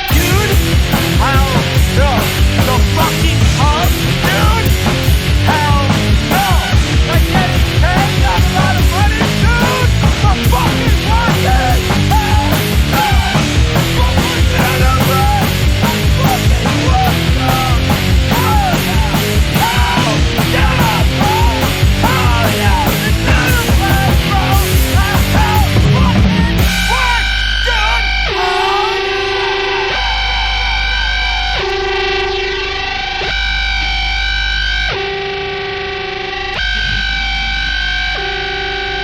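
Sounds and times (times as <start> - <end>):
fast loud punk rock band: 0.0 - 39.0.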